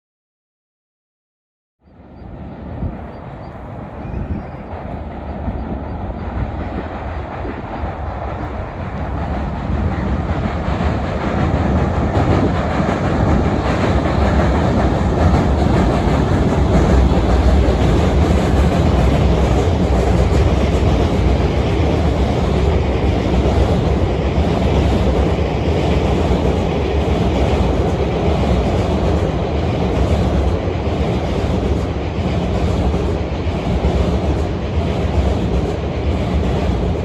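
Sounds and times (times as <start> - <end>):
train wheels rumbling on rails: 1.9 - 37.0.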